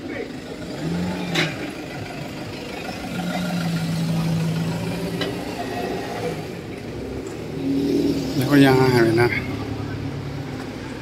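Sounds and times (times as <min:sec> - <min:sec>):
minibus engine humming: 0:00.0 - 0:11.0
street traffic: 0:00.0 - 0:11.0.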